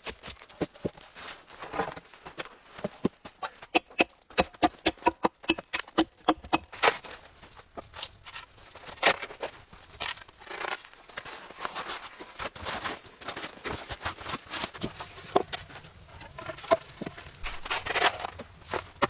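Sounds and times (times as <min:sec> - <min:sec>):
rustling and crinkling: 0:00.0 - 0:03.7, 0:06.7 - 0:19.0.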